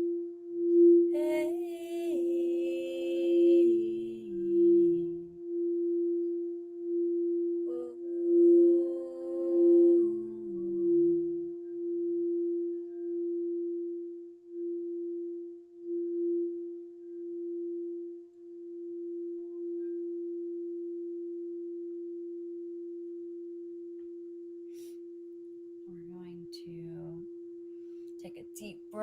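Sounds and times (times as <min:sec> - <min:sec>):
singing bowl ringing: 0:00.0 - 0:29.0.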